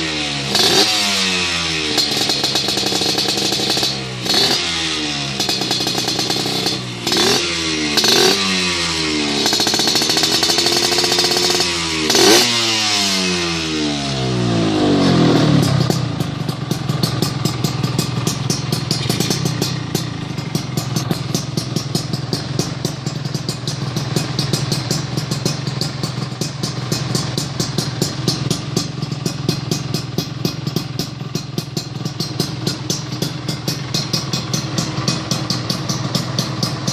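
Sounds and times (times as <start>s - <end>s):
motorcycle engine revving and idling: 0.0s - 36.9s.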